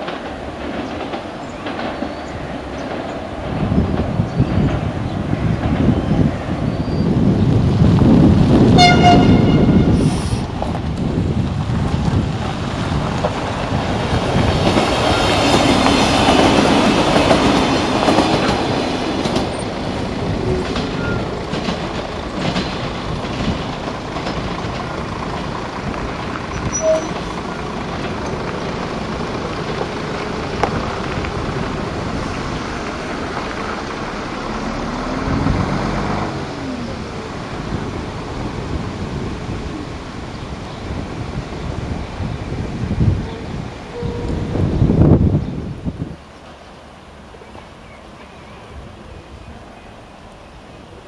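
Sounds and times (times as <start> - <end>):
train engine: 0.0 - 51.0
train wheels on rails: 0.0 - 51.0.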